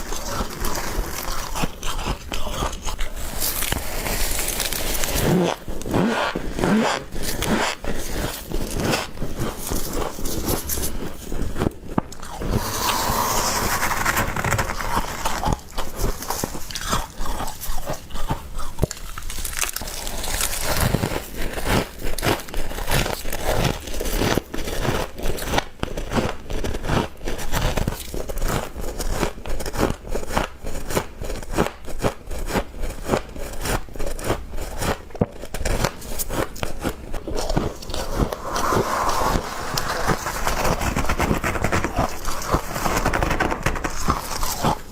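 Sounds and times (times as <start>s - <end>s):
frost crunching being chewed: 0.0s - 13.4s, 14.8s - 38.4s, 39.1s - 44.9s.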